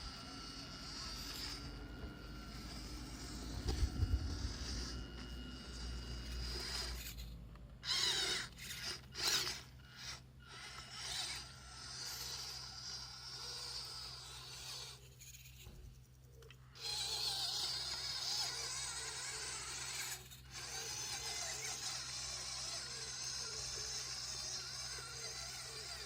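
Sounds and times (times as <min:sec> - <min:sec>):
small electric motor whirring: 0:00.0 - 0:26.0.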